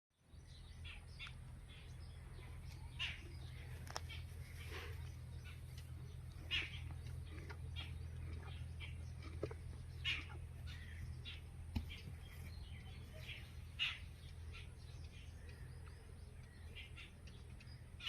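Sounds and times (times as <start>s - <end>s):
low hum: 0.2s - 18.0s.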